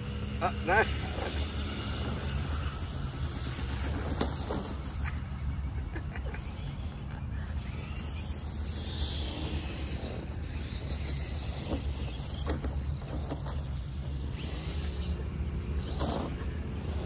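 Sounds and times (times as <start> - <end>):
toy truck electric motors whirring: 0.0 - 17.0.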